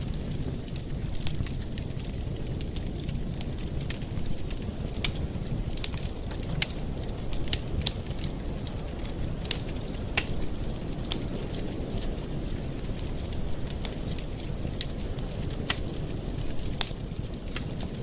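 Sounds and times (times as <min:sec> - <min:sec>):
campfire flames rushing: 0:00.0 - 0:18.0
wood crackles and pops: 0:00.0 - 0:18.0.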